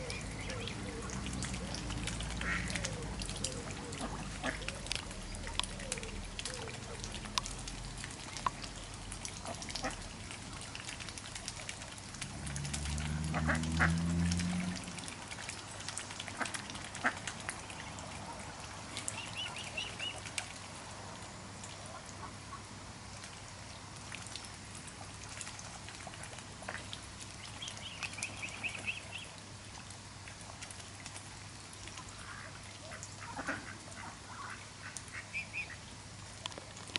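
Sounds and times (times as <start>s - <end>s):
bills dabbling in water: 0.0s - 36.9s.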